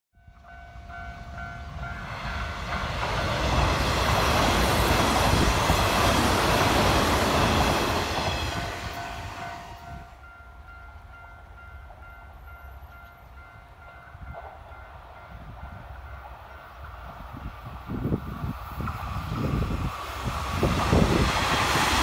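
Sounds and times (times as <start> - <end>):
electric train passing: 0.2 - 22.0.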